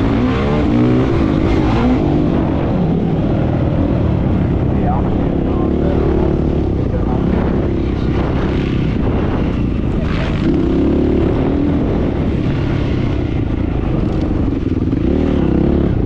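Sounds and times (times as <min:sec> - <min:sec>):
steady rushing noise: 0:00.0 - 0:16.0
vehicle engine revving: 0:00.0 - 0:16.0.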